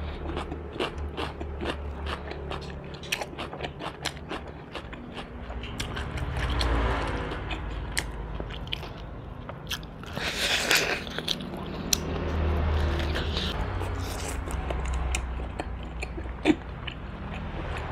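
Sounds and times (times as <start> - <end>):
person chewing and biting: 0.0 - 17.8.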